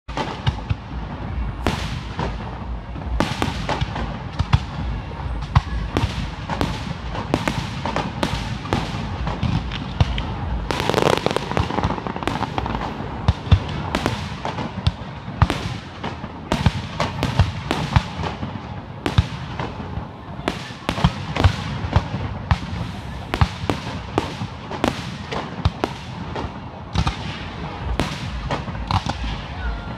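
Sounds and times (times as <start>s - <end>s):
fireworks bangs: 0.1s - 29.9s
fireworks crackling: 0.1s - 29.9s.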